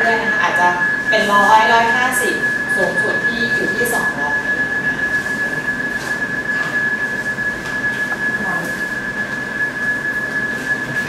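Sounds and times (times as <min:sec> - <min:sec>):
high-pitched electronic tone: 0:00.0 - 0:11.0.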